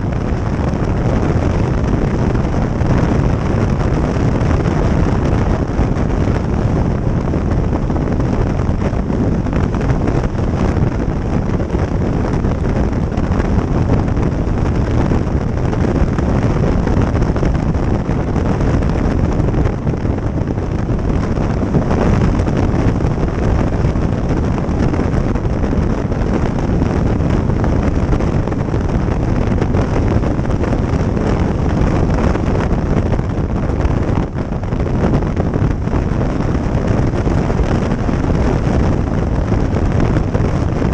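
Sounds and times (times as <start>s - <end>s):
motorcycle running: 0.0s - 40.9s
wind rushing over microphone: 0.0s - 40.9s.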